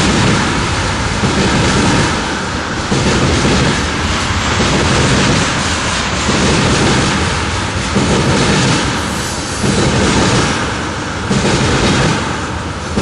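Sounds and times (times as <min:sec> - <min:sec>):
freight train rumble and rattle: 0:00.0 - 0:13.0.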